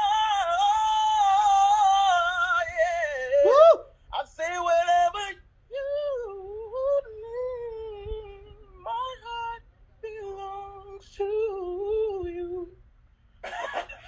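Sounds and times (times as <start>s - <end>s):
man singing unaccompanied: 0.0s - 12.8s.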